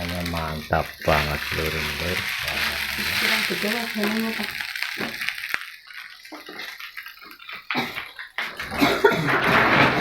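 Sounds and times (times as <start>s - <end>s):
food sizzling in a pan: 0.0s - 9.1s.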